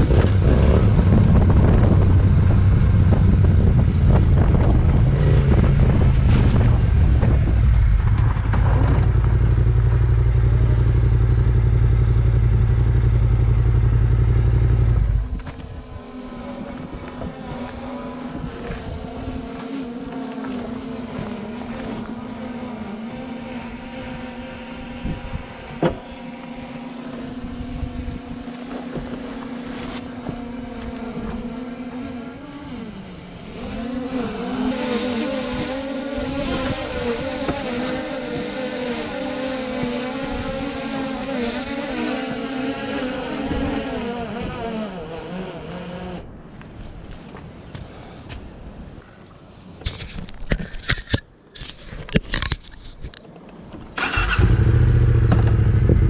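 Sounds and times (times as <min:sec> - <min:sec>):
motorcycle engine rumble: 0:00.0 - 0:47.2, 0:53.6 - 0:56.0
wind noise: 0:00.0 - 0:56.0.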